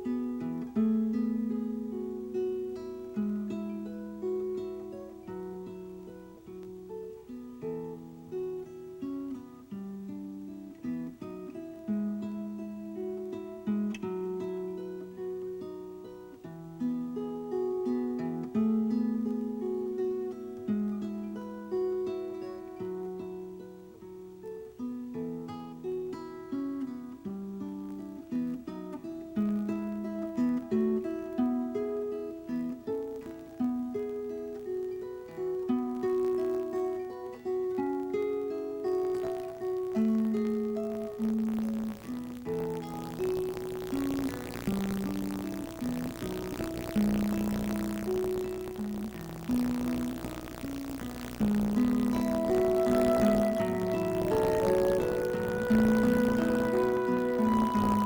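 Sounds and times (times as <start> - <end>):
acoustic guitar picking melody: 0.0 - 58.0.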